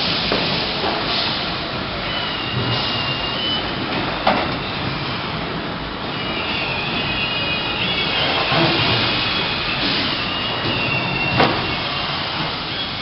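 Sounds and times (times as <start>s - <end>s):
assembly line machinery din: 0.0s - 13.0s
roller conveyors running: 0.0s - 13.0s
high squealing whine: 2.0s - 13.0s.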